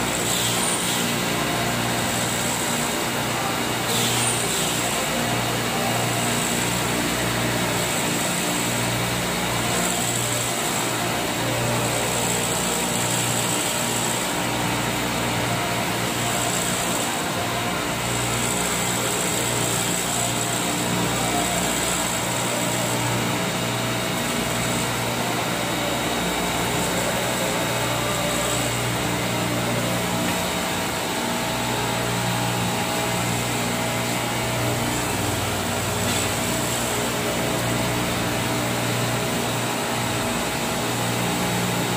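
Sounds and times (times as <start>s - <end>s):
glass grinding machine hum: 0.0s - 41.9s.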